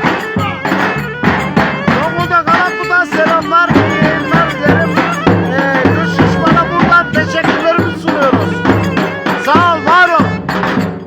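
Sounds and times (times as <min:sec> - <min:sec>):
folk melody instrument: 0:00.0 - 0:11.0
steady drum beat: 0:00.0 - 0:11.0.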